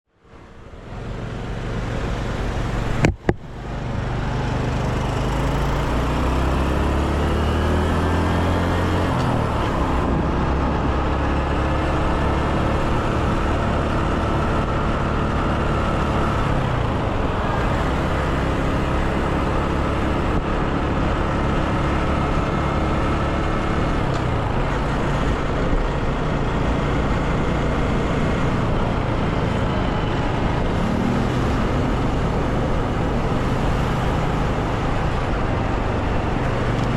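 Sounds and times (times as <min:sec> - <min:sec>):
road and wind noise: 0:00.1 - 0:36.9
motorcycle engine revving: 0:00.5 - 0:36.9.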